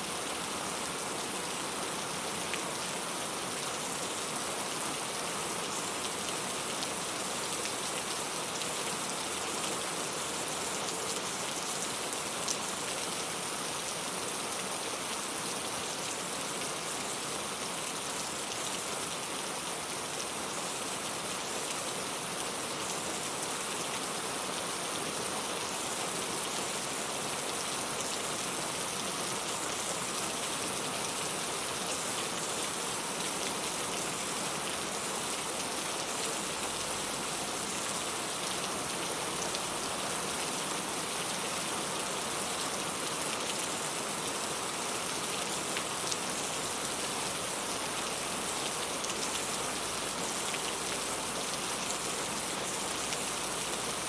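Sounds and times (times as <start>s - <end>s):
rain hitting a surface: 0.0s - 54.0s.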